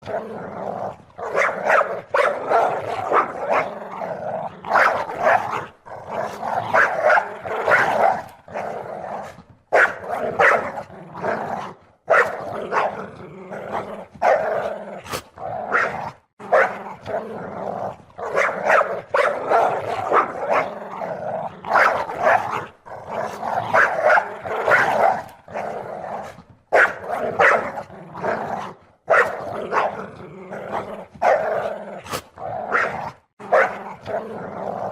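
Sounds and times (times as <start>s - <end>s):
dog barking and growling: 0.0s - 34.9s.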